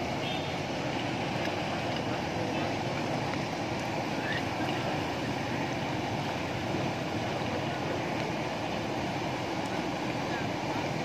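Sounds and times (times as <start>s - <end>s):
turbulent water rushing: 0.0s - 11.0s.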